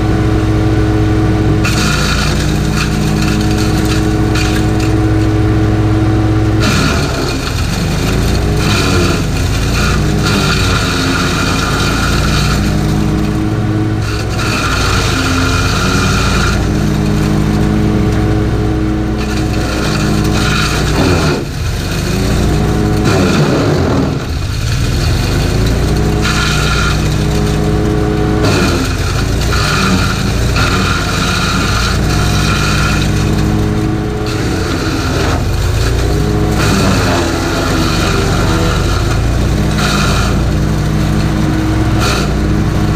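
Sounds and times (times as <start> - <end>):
wood chipper engine at full throttle: 0.0 - 42.9
branches being chipped: 6.5 - 42.9.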